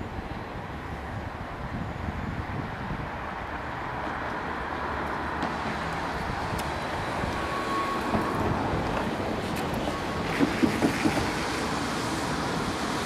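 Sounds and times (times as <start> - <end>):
train wheels rumbling on rail: 0.1 - 13.0.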